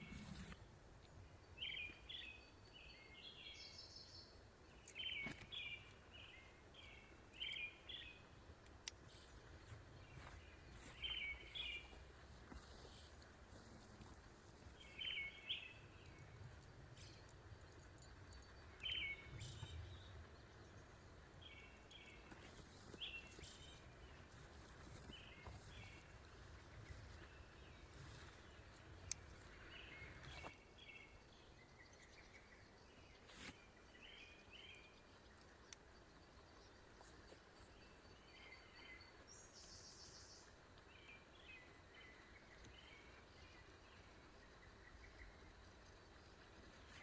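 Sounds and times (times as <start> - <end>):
songbird chirping: 0.0 - 47.0.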